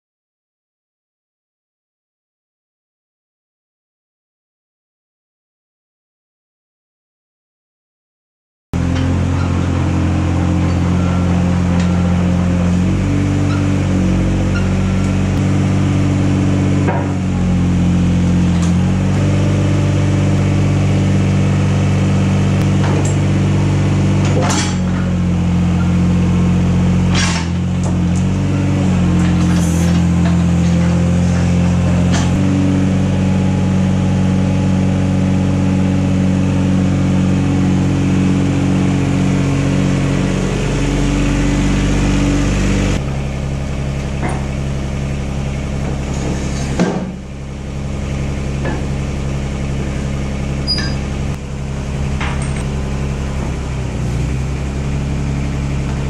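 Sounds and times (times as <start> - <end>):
excavator diesel engine running: 8.8 - 56.0.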